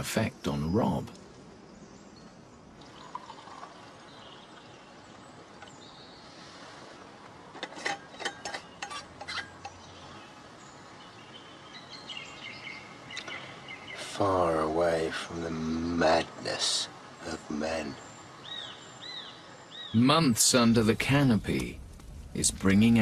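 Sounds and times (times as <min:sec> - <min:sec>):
faint bird chirps: 0:00.0 - 0:07.1, 0:08.0 - 0:21.5.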